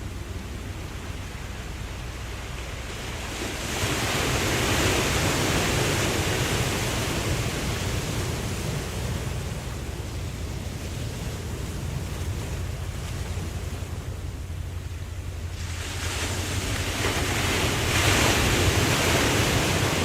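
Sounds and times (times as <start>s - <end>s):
ocean waves washing: 0.0s - 20.0s
steady low rumble: 0.0s - 20.0s.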